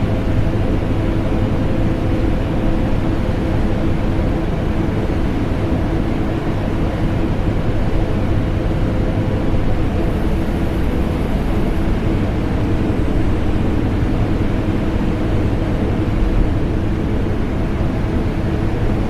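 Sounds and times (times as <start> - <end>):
air conditioner running: 0.0 - 19.0.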